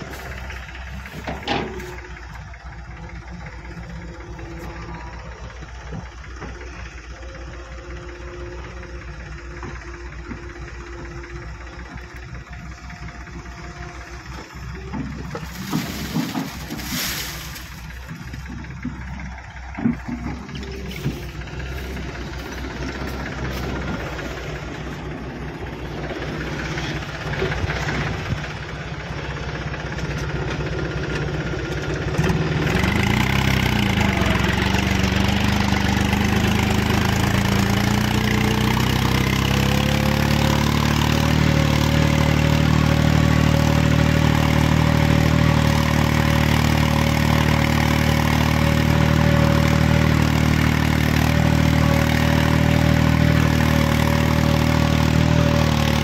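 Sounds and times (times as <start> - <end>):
tractor diesel engine: 0.0 - 56.0.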